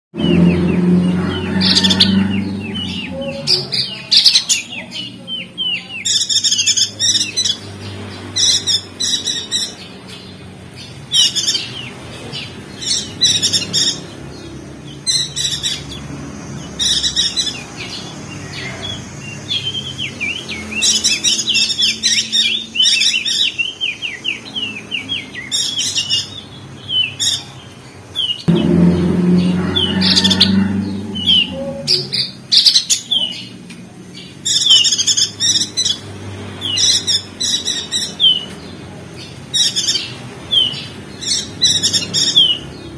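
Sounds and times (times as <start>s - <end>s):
bird chirping and trilling: 0.2s - 33.6s, 34.2s - 42.9s.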